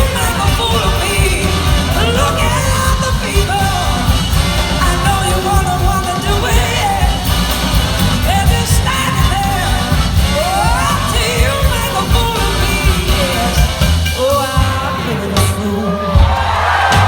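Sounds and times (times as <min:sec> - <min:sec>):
blues-rock band playing live: 0:00.0 - 0:17.0.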